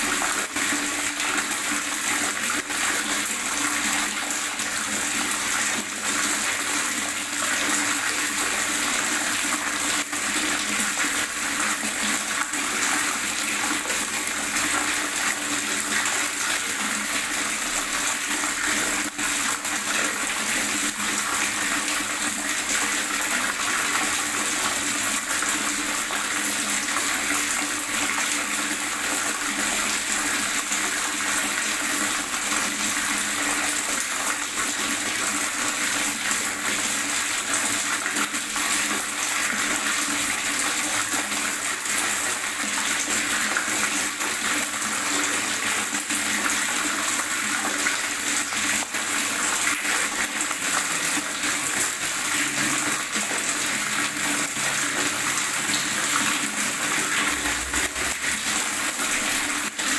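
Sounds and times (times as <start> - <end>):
water gurgling: 0.0 - 59.9.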